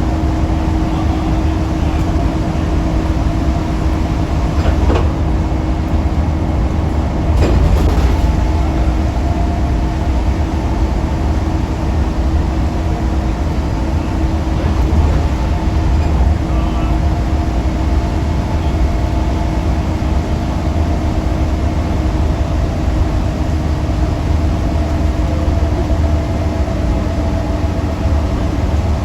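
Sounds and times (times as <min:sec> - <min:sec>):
bus diesel engine rumbling: 0:00.0 - 0:29.0
steady engine whine: 0:00.0 - 0:29.0.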